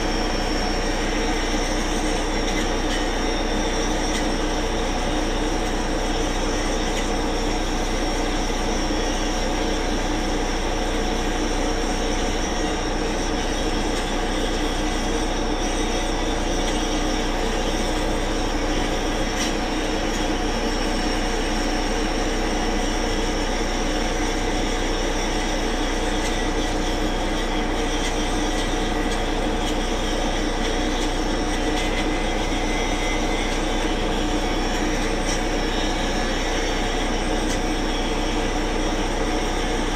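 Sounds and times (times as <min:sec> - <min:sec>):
high steady whining tones: 0:00.0 - 0:39.9
machine drone: 0:00.0 - 0:39.9.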